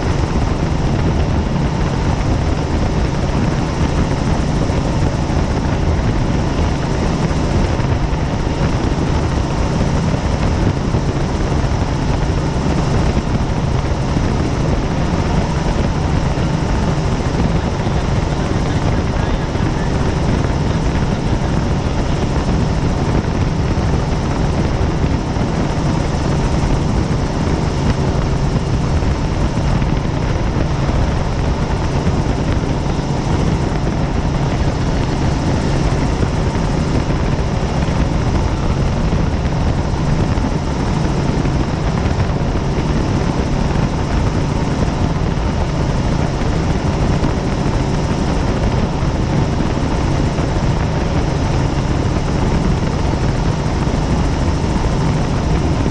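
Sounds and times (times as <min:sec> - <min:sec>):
helicopter rotor and turbine: 0:00.0 - 0:55.9.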